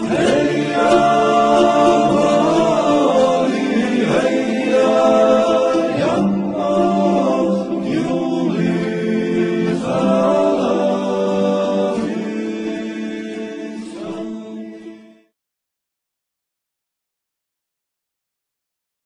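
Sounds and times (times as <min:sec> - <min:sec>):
unaccompanied choir singing: 0:00.0 - 0:15.4.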